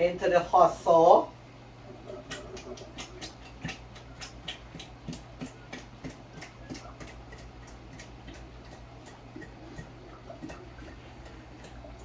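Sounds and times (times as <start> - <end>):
pots boiling: 0.0 - 12.0
steady low hum: 0.0 - 12.0
small ticks and bubble pops: 2.2 - 12.0.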